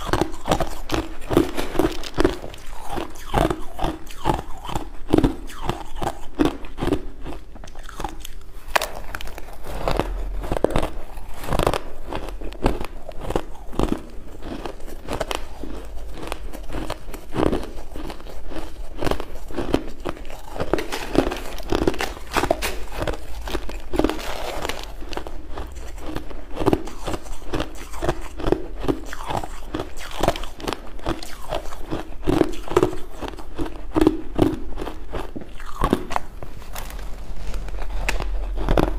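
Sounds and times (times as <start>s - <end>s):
crunching ice: 0.0s - 38.9s.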